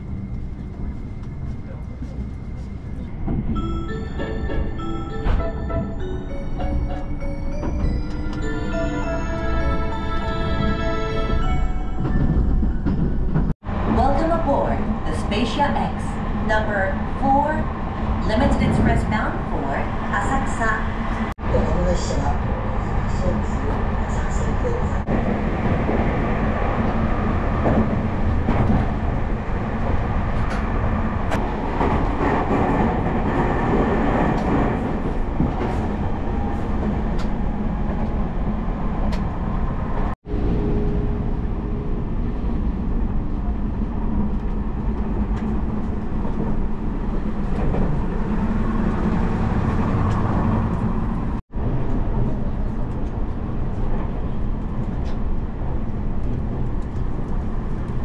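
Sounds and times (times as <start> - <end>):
train wheels rumbling on rail: 10.2 - 58.0.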